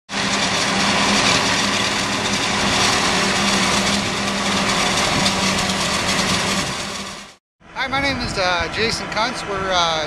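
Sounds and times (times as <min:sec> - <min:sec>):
harvester engine running: 0:00.1 - 0:10.0.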